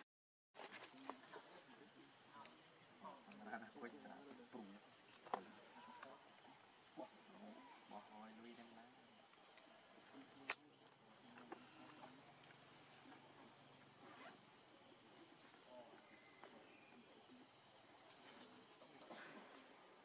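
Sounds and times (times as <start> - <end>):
insects chirring: 0.6 - 20.0.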